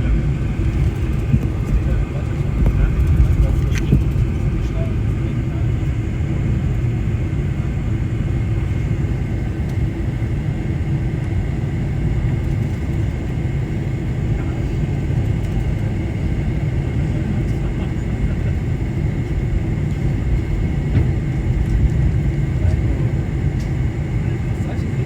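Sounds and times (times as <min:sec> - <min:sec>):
aircraft engine rumble in cabin: 0:00.0 - 0:25.0.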